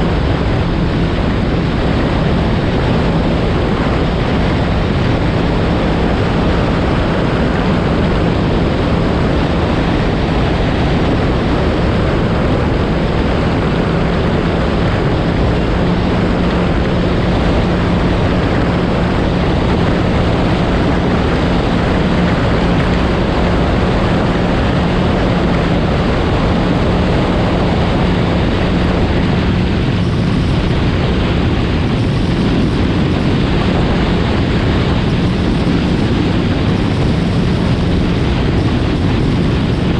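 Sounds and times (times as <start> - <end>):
personal watercraft engine droning: 0.0 - 39.9
wind buffeting microphone: 0.0 - 39.9.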